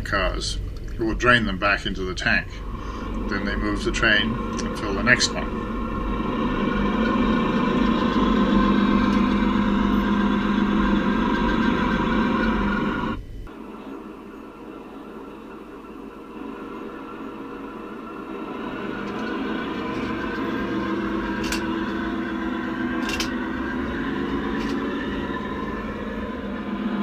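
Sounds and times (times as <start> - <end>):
faint running sound: 0.0 - 27.0
electric motor humming: 2.0 - 27.0.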